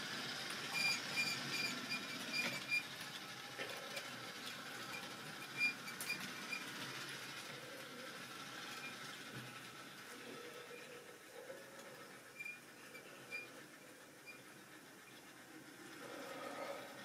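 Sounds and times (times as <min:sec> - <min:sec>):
faint motor whir: 0:00.0 - 0:17.0
model train wheels clicking: 0:00.0 - 0:17.0.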